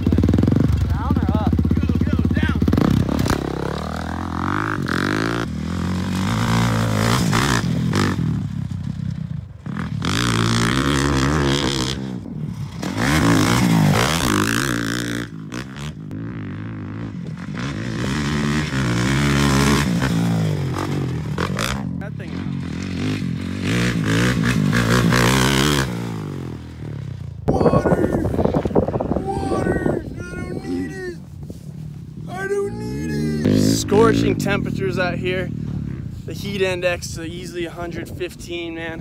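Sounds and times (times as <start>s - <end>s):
dirt bike engine revving: 0.0s - 31.2s, 32.1s - 36.9s.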